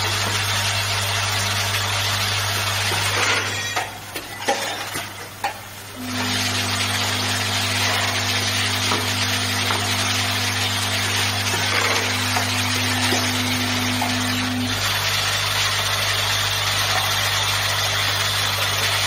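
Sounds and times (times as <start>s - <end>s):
machine humming: 0.0s - 3.8s, 5.8s - 19.0s.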